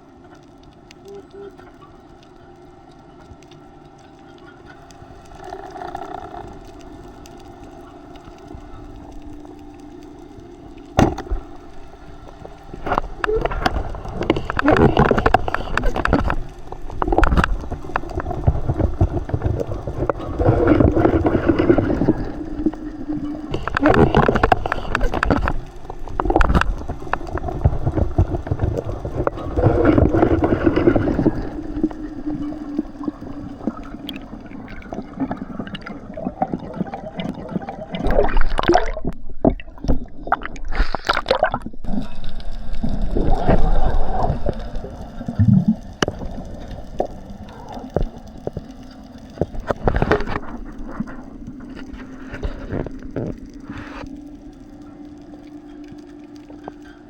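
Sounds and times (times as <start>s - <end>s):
water gurgling underwater: 4.2s - 57.0s.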